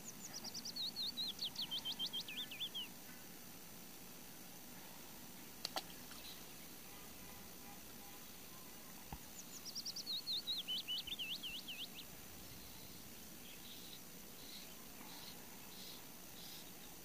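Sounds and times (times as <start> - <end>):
songbird singing: 0.0 - 3.4, 5.2 - 17.0
faint outdoor hiss: 0.0 - 17.0.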